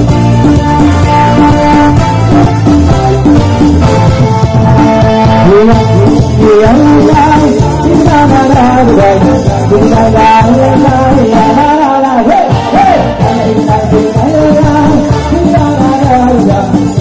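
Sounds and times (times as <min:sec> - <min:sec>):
man singing into a microphone: 0:00.0 - 0:02.4, 0:04.3 - 0:17.0
electronic keyboard dance music: 0:00.0 - 0:17.0.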